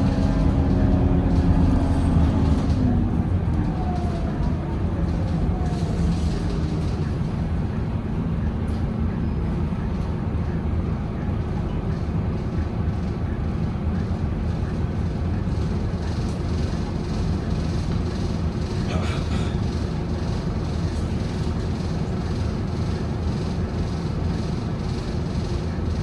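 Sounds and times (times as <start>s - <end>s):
diesel bus engine rumbling: 0.0s - 26.0s.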